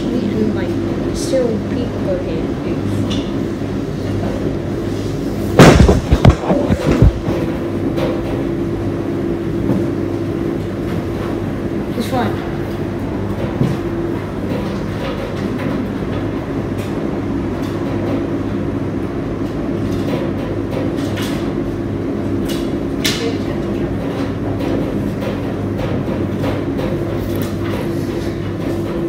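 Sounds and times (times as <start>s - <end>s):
laundry machines humming and rumbling: 0.0s - 29.0s.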